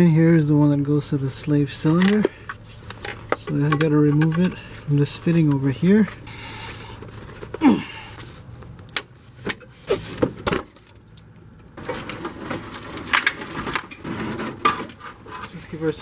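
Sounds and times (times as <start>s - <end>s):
rustling and knocking of parts: 1.8s - 6.2s, 6.9s - 7.6s, 8.2s - 16.0s.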